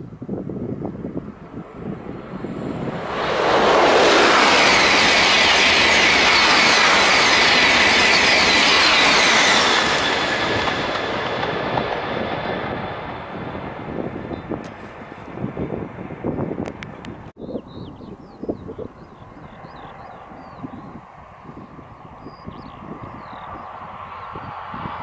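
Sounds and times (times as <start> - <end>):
high-speed train passing: 0.0 - 17.3, 18.8 - 25.0.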